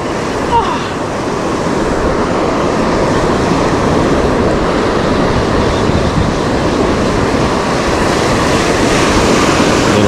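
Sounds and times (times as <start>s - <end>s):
ocean surf rushing: 0.0s - 10.0s
wind rumble on microphone: 0.0s - 10.0s.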